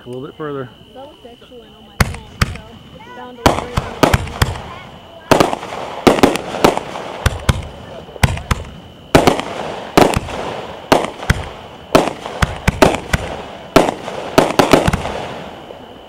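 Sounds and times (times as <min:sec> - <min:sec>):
fireworks bangs: 0:01.9 - 0:16.0.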